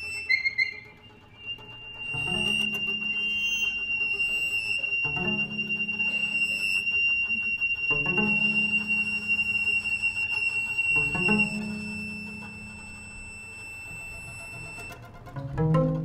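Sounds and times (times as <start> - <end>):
thin high held tone: 0.0 - 15.2.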